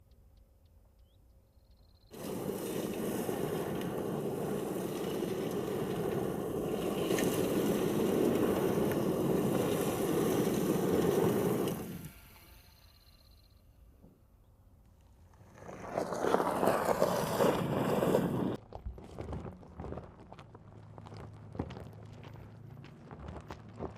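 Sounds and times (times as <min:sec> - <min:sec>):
electric vehicle driving off-road: 0:02.1 - 0:13.6, 0:15.2 - 0:23.9.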